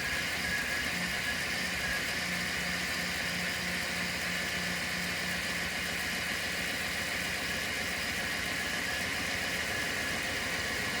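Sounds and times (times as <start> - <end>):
van engine idling: 1.2 - 11.0.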